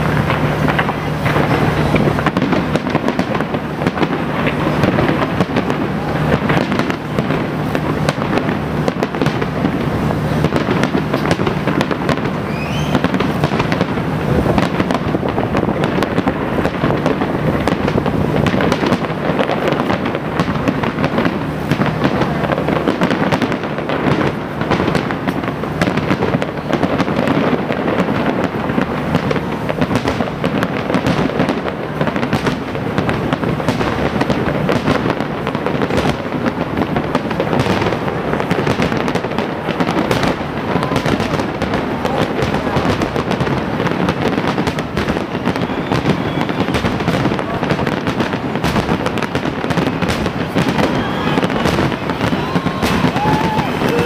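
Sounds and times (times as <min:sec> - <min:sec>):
firework rising whistle: 0:00.0 - 0:31.4, 0:37.3 - 0:43.1, 0:44.0 - 0:54.0
fireworks bangs and crackling: 0:00.0 - 0:54.0.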